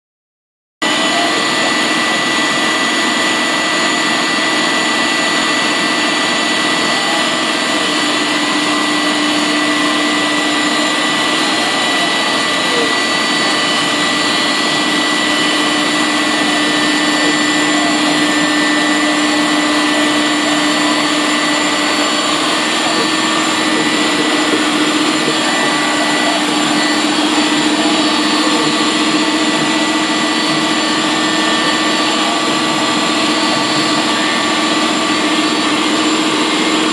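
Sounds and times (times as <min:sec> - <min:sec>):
router spindle whine: 0:00.8 - 0:36.9.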